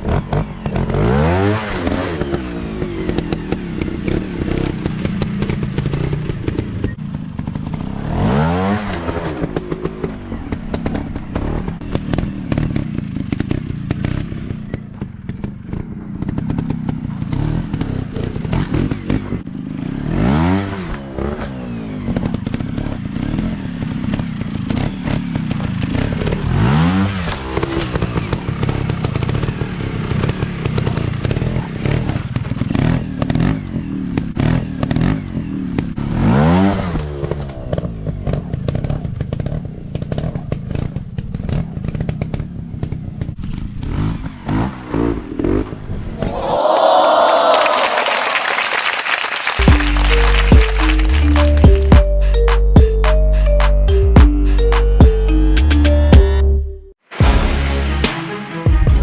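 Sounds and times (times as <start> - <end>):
dirt bike engine revving: 0.0 - 42.4, 43.4 - 46.7, 49.4 - 59.0.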